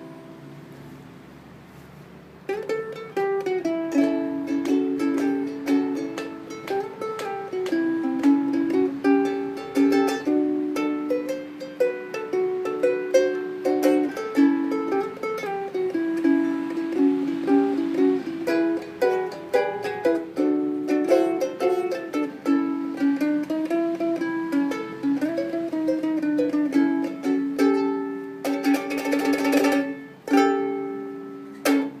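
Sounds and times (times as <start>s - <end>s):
ukulele melody over chords: 0.0s - 1.0s, 2.4s - 32.0s
fast ukulele strumming: 2.4s - 32.0s.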